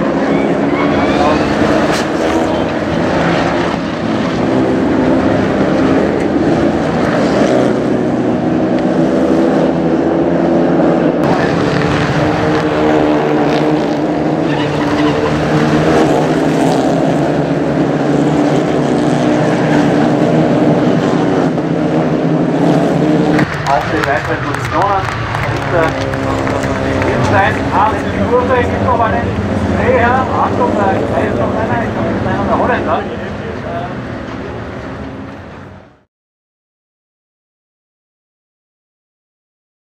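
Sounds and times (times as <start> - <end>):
race cars passing at high revs: 0.0 - 36.1.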